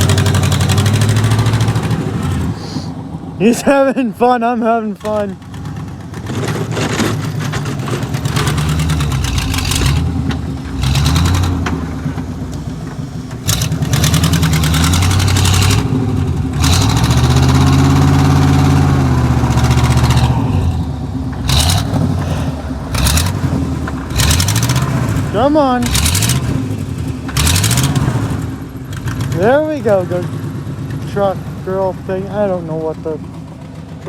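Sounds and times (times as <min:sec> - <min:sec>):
truck engine revving: 0:00.0 - 0:34.0.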